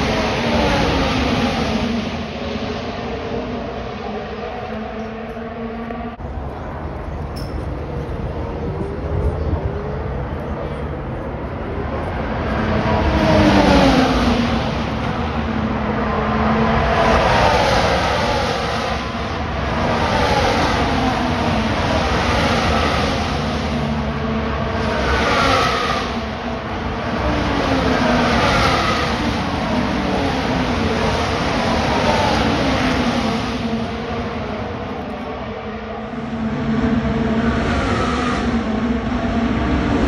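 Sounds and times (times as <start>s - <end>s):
racing cars passing at speed: 0.0s - 40.0s.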